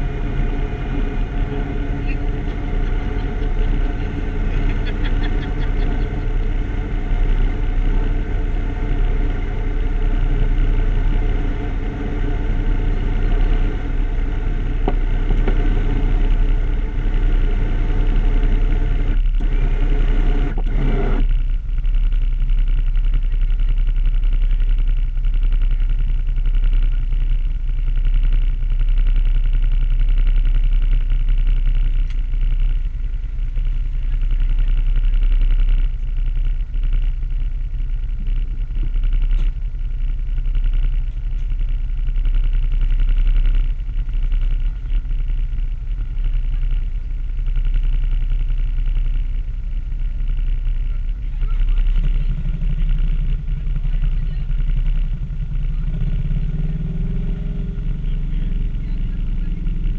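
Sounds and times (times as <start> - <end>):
higher-pitched engine running note: 0.0 - 59.9
off-road vehicle engine idling: 0.0 - 59.9.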